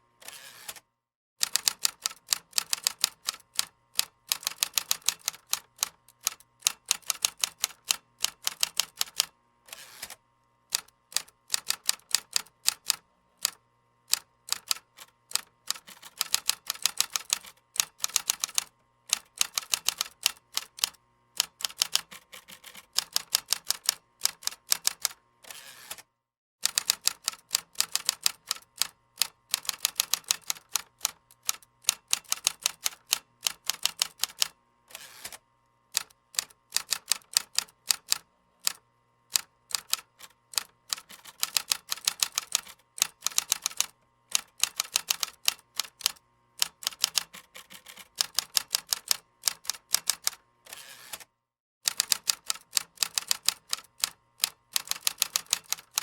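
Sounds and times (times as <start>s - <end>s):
computer keyboard typing: 1.4s - 9.3s, 10.7s - 25.2s, 26.6s - 34.5s, 36.0s - 50.4s, 51.9s - 56.0s.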